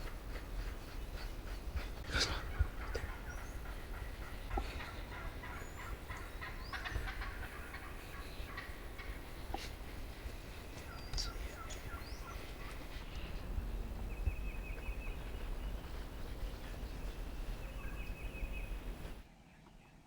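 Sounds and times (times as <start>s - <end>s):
turkey gobbling: 0.0s - 19.2s
low wind rumble: 0.0s - 19.3s
small birds chirping: 0.0s - 20.0s.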